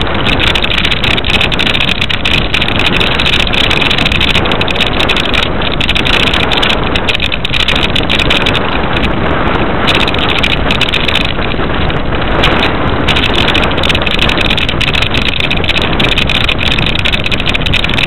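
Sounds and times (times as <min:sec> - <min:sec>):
loud rolling noise on snow: 0:00.0 - 0:18.0
wind on microphone: 0:00.0 - 0:18.0.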